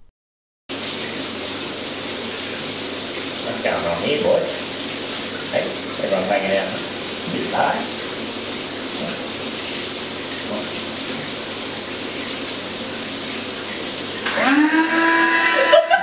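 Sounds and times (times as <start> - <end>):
running water hissing: 0.7 - 16.0.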